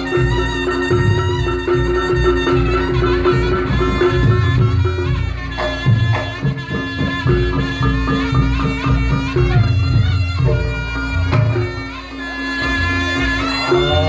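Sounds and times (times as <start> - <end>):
shawm playing ornamented melody: 0.0 - 14.0.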